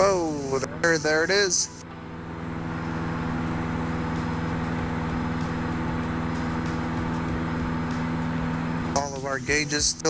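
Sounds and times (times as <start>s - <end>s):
aircraft engine and propeller: 0.0s - 10.0s.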